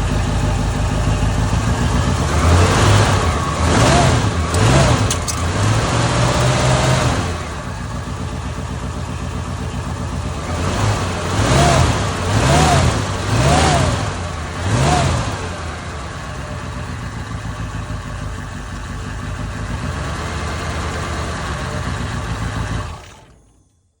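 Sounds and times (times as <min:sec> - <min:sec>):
car engine idling and revving: 0:00.0 - 0:23.7.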